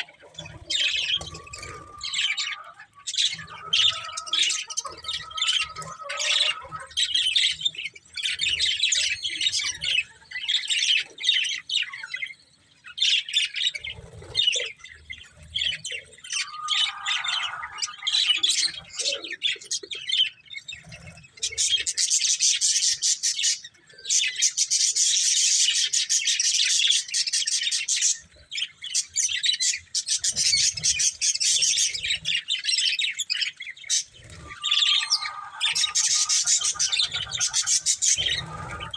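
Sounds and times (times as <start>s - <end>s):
budgerigars chirping and warbling: 0.0s - 38.9s.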